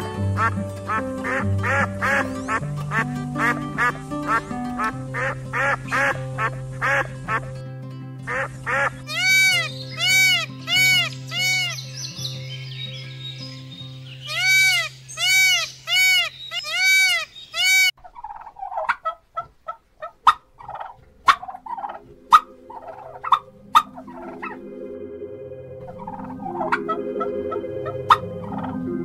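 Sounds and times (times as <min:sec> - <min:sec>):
peafowl honking calls: 0:00.0 - 0:07.5, 0:08.3 - 0:24.8, 0:25.9 - 0:29.0.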